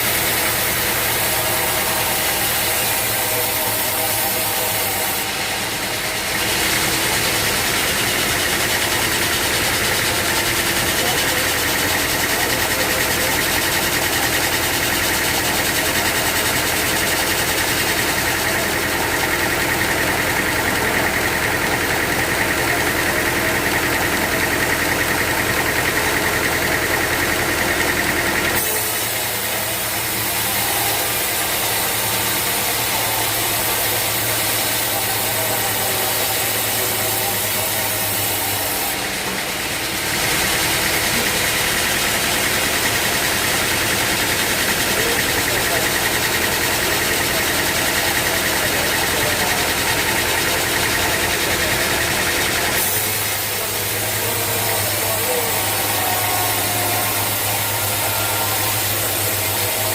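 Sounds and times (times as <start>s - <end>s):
engine hum: 0.0s - 59.9s
sawmill machinery running: 0.0s - 59.9s.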